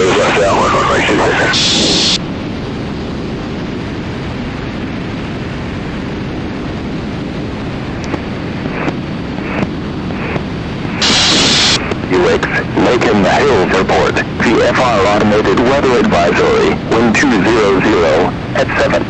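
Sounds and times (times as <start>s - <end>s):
airplane engine and airflow noise: 0.0s - 19.0s.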